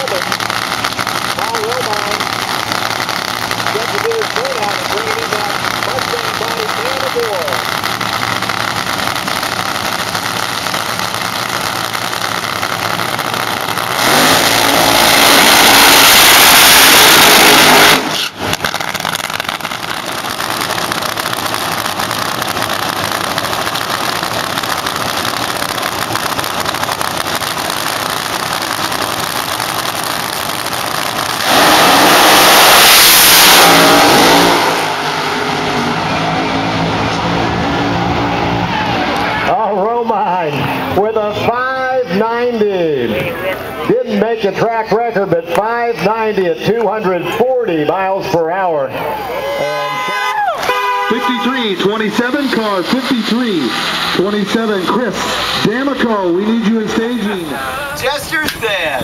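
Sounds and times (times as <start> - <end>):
race car engines idling: 0.0 - 32.1, 33.7 - 59.0
full-throttle engine blasts: 0.0 - 59.0.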